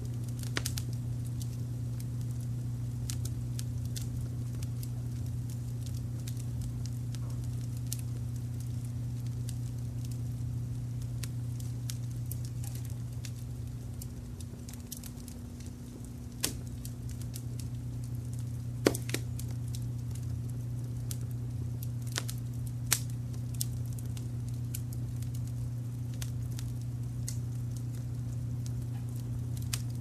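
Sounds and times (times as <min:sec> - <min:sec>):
low rumble of brown noise: 0:00.0 - 0:30.0
wood fire crackling: 0:00.0 - 0:30.0.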